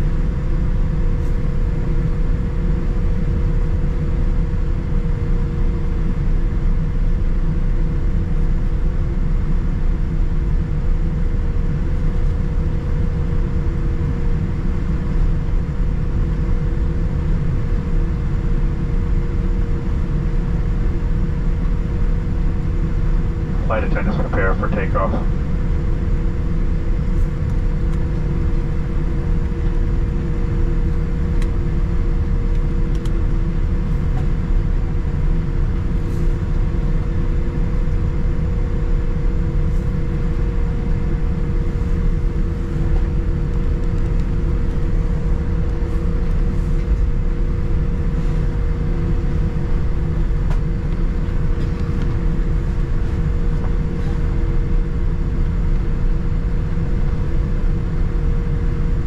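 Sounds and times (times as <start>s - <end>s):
airplane cabin rumble: 0.0s - 59.0s
steady hums: 11.2s - 59.0s.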